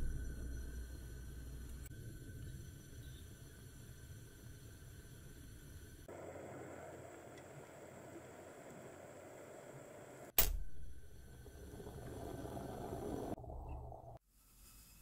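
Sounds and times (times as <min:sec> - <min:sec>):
moka pot coffee gurgling: 0:00.0 - 0:10.2, 0:11.0 - 0:14.2.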